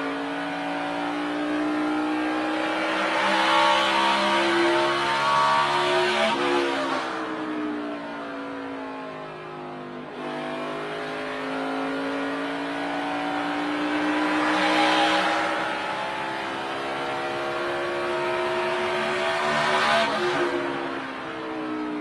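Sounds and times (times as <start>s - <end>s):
race car engine under power: 0.2s - 7.4s, 10.2s - 21.9s.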